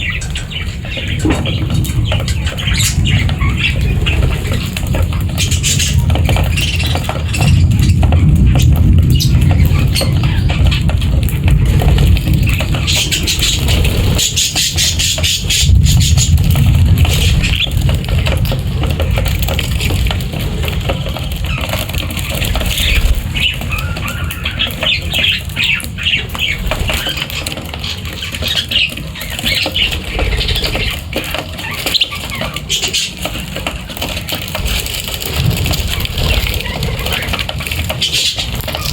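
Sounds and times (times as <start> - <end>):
birds chirping: 0.0 - 38.9
wings fluttering: 0.0 - 38.9.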